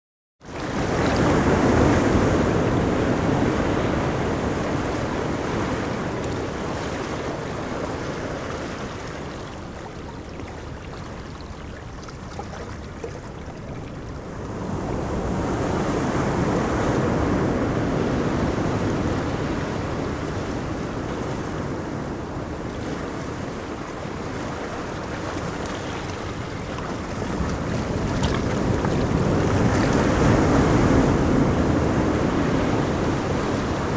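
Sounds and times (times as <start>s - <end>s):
waves breaking on beach: 0.4s - 33.9s
wind: 0.4s - 33.9s.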